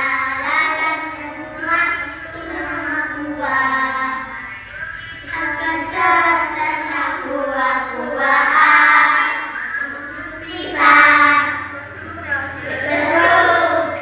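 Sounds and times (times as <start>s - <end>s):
children singing: 0.0s - 14.0s.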